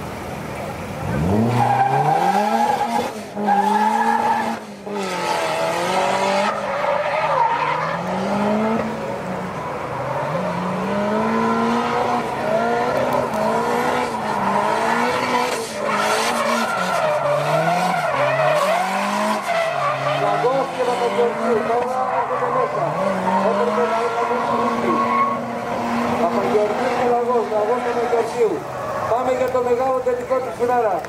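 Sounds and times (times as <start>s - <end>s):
tyres skidding and squealing: 0.0s - 31.0s
car engine revving hard: 0.8s - 29.2s.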